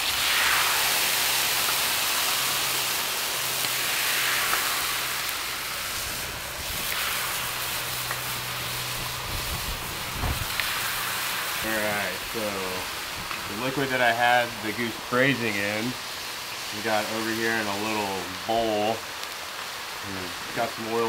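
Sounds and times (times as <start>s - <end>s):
tortillas sizzling on a griddle: 0.0s - 21.0s.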